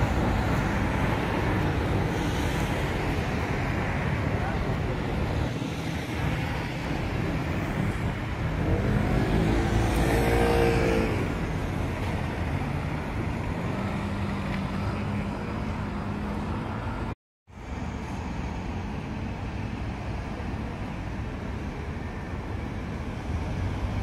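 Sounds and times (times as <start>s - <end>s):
rumble of traffic: 0.0s - 24.0s.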